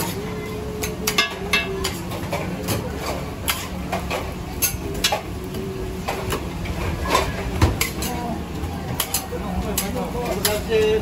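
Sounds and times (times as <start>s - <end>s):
low kitchen rumble: 0.0s - 11.0s.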